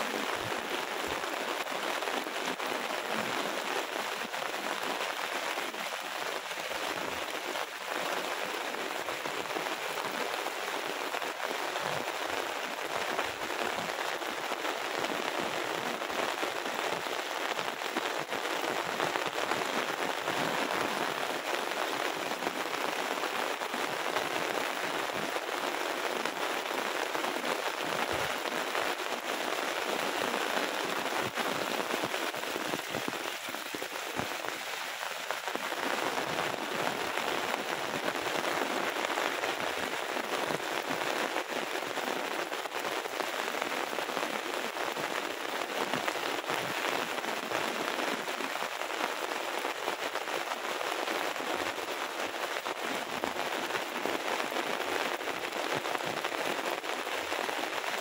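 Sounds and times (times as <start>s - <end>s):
heavy rain falling: 0.0s - 58.0s
raindrops ticking on surfaces: 0.0s - 58.0s.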